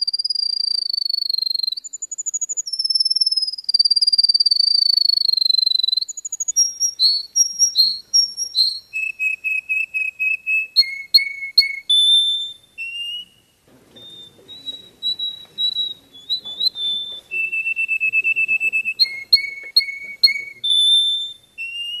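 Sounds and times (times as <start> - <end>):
finch singing whistled notes: 0.0 - 22.0.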